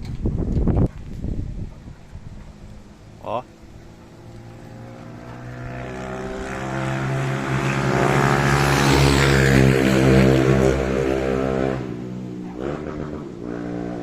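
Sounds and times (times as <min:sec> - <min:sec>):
engine drone: 0:01.9 - 0:14.0.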